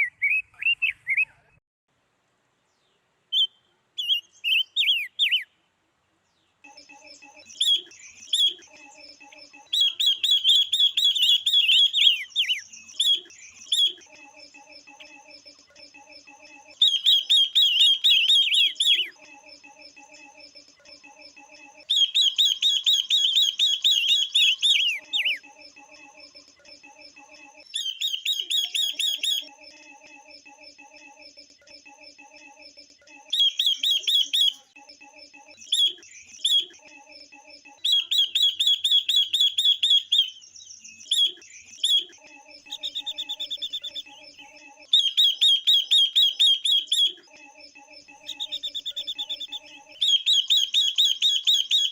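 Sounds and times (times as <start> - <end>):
birds rapid high chattering: 3.3 - 5.6, 6.6 - 51.9.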